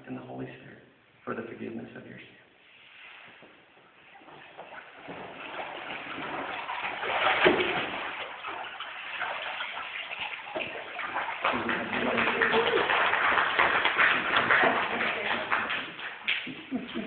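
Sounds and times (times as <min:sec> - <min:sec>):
water splashing and sloshing: 0:02.7 - 0:17.0.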